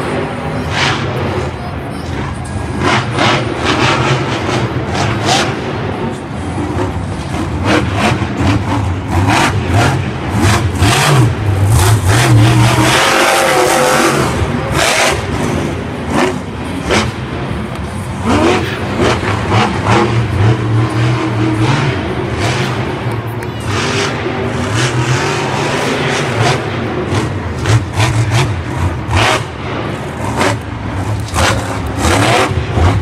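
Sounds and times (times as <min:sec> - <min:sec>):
truck engine revving hard: 0:00.0 - 0:33.0.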